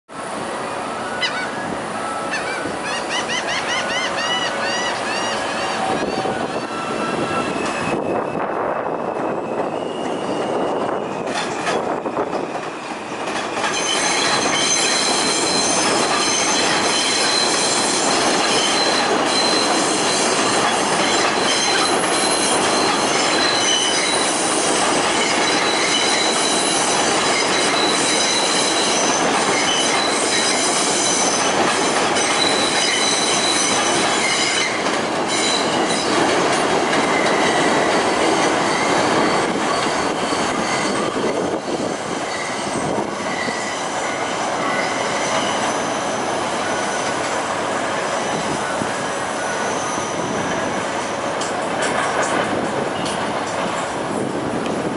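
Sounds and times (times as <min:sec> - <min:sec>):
train wheels rumbling on rail: 0:00.1 - 0:54.9
train wheels squealing: 0:00.9 - 0:54.0.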